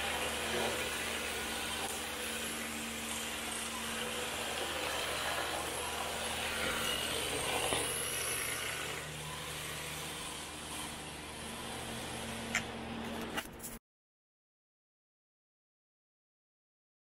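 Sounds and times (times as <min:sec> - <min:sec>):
rc car motor and tyres on concrete: 0:00.0 - 0:13.8.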